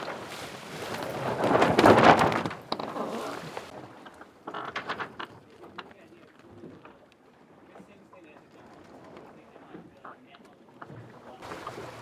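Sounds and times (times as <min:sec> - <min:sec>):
sails flogging: 0:00.0 - 0:12.0.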